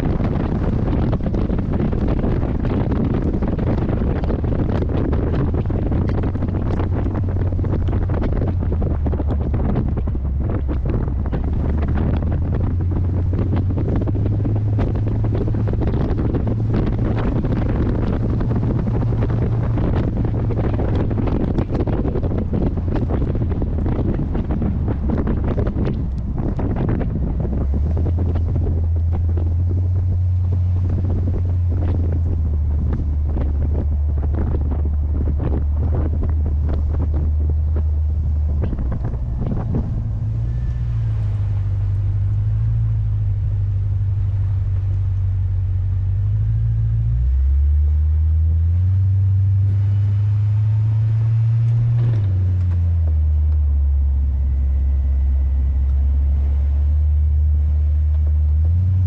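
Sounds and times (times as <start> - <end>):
car engine revving while driving: 0.0 - 59.0
wind buffeting microphone: 0.0 - 59.0.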